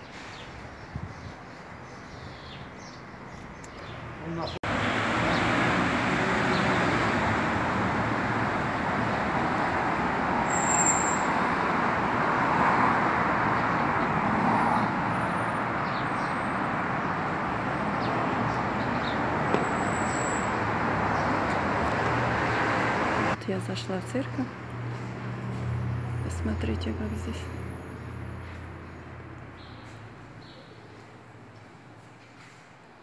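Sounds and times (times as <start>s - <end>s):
road traffic hiss: 0.0s - 23.4s, 24.2s - 33.0s.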